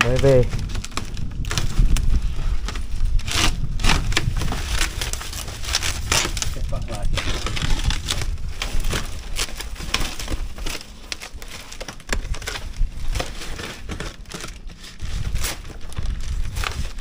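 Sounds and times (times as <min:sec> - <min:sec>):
plastic wrapping crinkling and tearing: 0:00.0 - 0:17.0.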